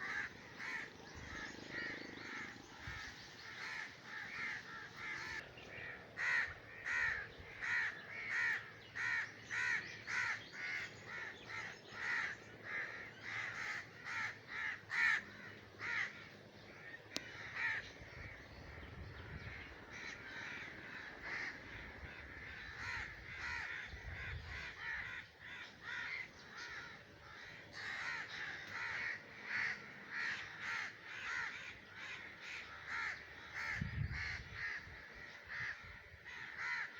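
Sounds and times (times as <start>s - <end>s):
crow cawing: 0.0s - 36.9s.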